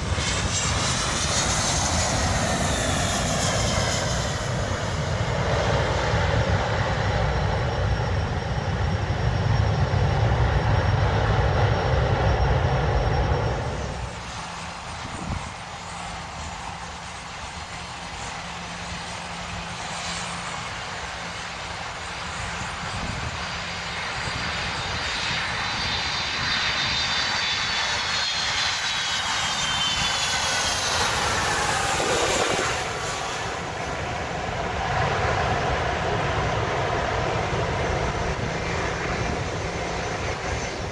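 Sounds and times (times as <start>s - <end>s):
high jet whine: 0.0s - 40.9s
jet engines on approach: 0.0s - 40.9s.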